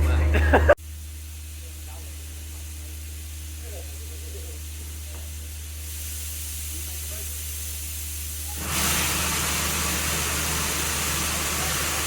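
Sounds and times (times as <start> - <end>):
locomotive hissing: 0.0 - 12.0.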